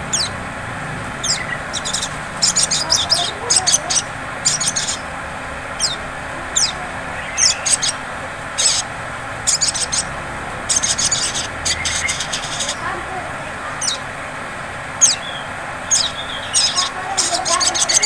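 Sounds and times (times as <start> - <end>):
bird high-pitched chattering: 0.0 - 0.4, 1.0 - 14.1, 14.9 - 18.0.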